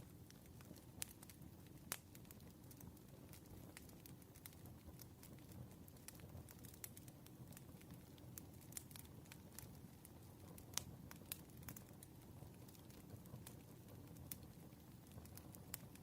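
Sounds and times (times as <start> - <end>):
low rumble of burning wood: 0.0 - 16.0
campfire pops and snaps: 0.2 - 16.0.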